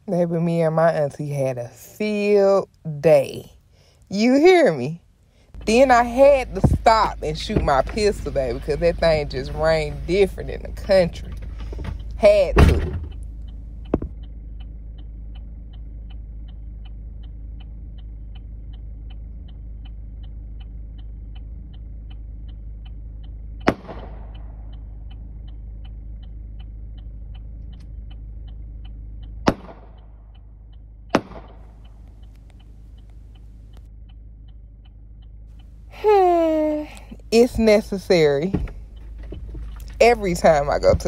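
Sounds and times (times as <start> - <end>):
low steady hum: 0.0 - 41.0
fast steady ticking: 3.5 - 41.0.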